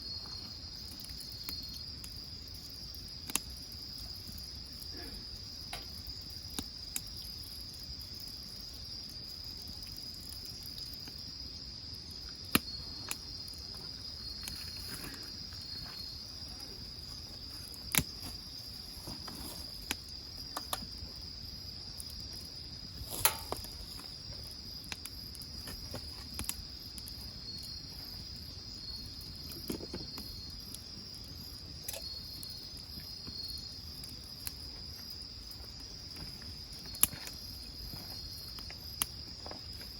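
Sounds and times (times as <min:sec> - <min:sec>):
crickets trilling: 0:00.0 - 0:39.9
wood fire crackling: 0:00.0 - 0:39.9.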